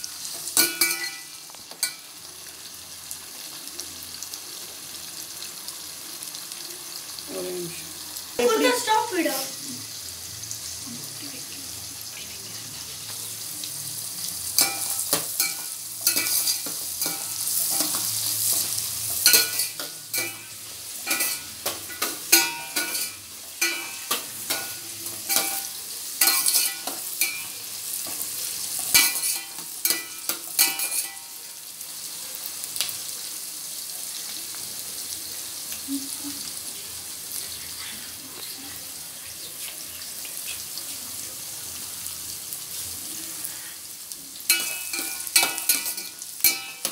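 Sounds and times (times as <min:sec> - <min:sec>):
onions sizzling in hot oil: 0:00.0 - 0:46.9.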